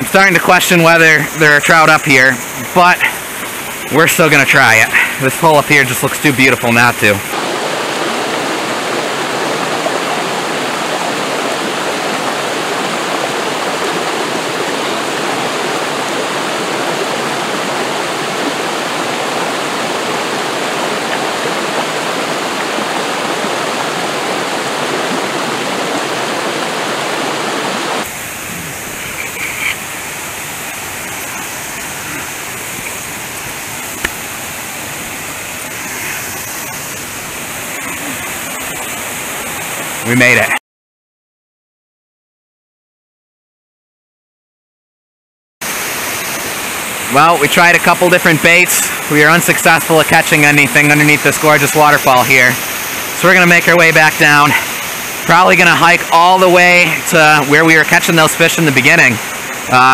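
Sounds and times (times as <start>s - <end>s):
waterfall splashing over rocks: 0.0s - 40.6s, 45.6s - 59.9s.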